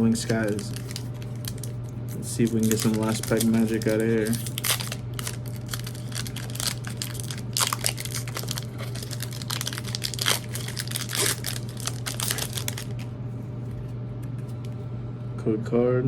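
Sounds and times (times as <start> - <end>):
foil wrapper tearing and crinkling: 0.0 - 13.1.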